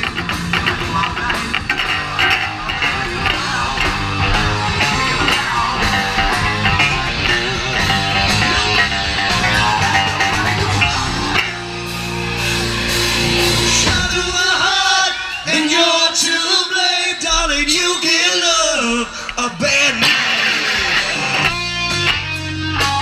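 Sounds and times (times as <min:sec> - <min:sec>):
live rock band playing: 0:00.0 - 0:15.7, 0:19.3 - 0:23.0
electric guitar: 0:00.0 - 0:23.0.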